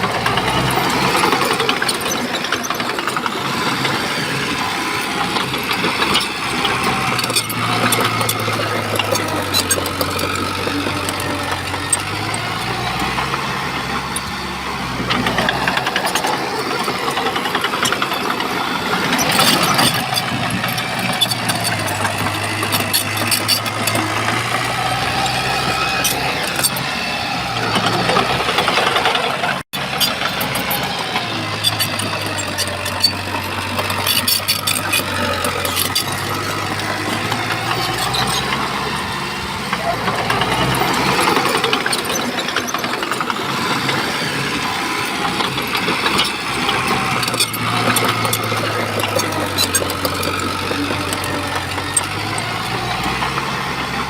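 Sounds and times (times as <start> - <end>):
bulldozer diesel engine working: 0.0 - 54.0
metallic clanks and rattles: 0.0 - 54.0.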